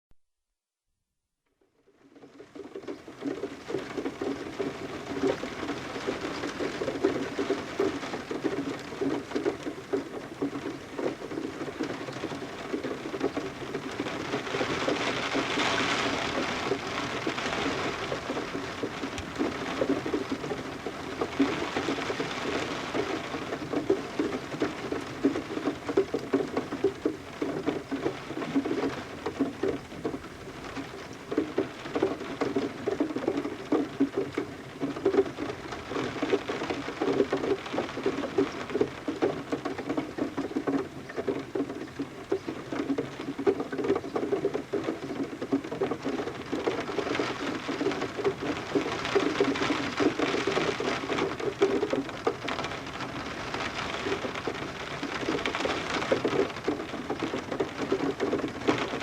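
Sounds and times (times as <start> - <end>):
rain pattering on a window: 1.6 - 59.0
water dripping: 2.2 - 59.0.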